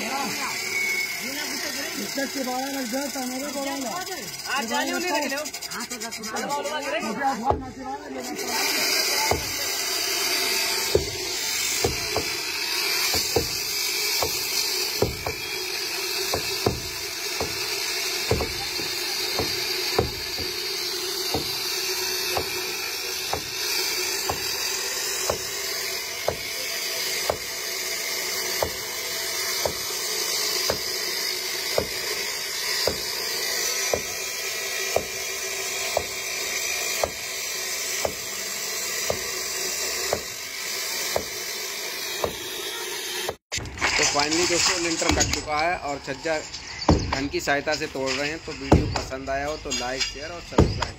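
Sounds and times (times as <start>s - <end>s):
concrete saw grinding: 0.0s - 50.9s.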